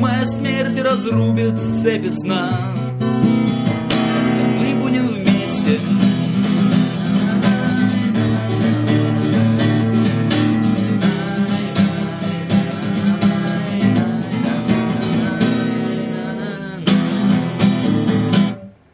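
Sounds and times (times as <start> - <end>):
acoustic guitar strumming chords: 0.0 - 18.9.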